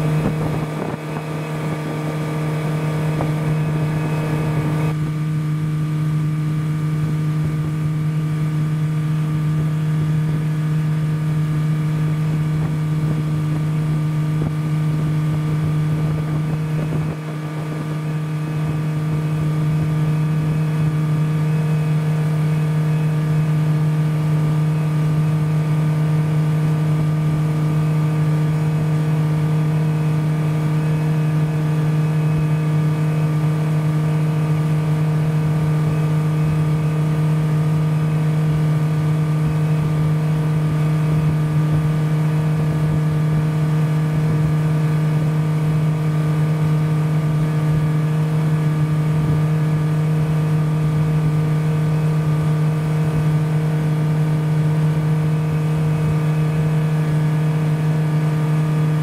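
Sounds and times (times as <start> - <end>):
motorboat engine droning: 0.0 - 59.0.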